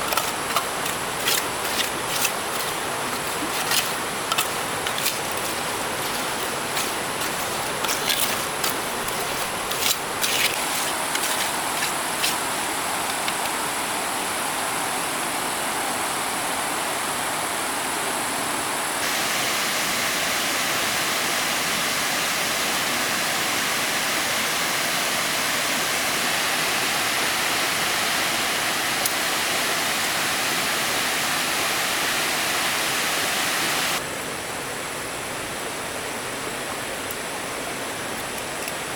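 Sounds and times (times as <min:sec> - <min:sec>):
flowing stream water: 0:00.0 - 0:38.9.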